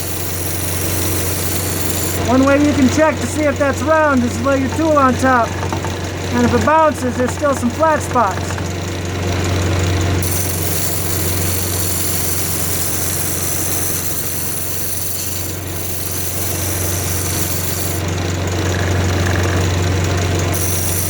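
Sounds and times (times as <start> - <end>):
turning tool rattling on wood: 0.0 - 21.0
wood lathe humming: 0.0 - 21.0.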